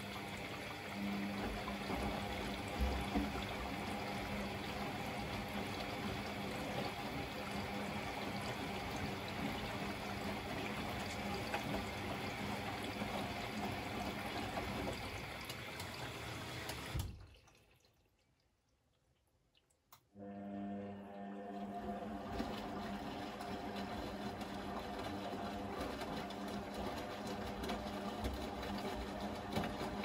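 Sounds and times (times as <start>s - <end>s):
washing machine water rushing: 0.0s - 18.1s, 20.2s - 30.0s.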